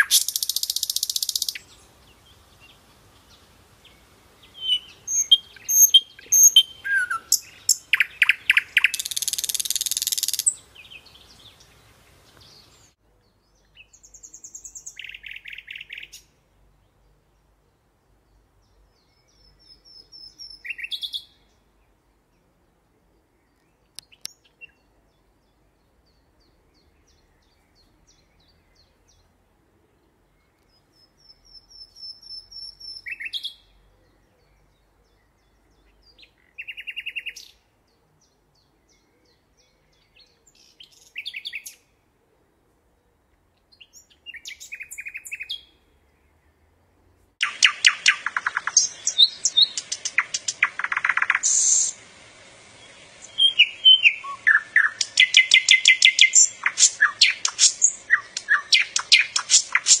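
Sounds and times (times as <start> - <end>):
nightingale singing: 0.0 - 17.6, 18.3 - 22.6, 23.4 - 29.4, 30.2 - 41.9, 43.6 - 45.8, 47.4 - 60.0
faint steady hiss: 0.0 - 60.0.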